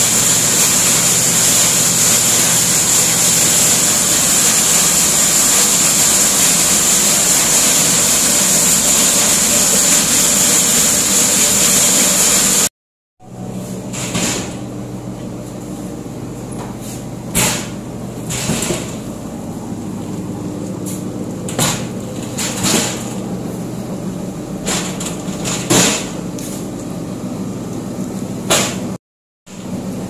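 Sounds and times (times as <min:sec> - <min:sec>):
block-making machine humming: 0:00.0 - 0:30.0.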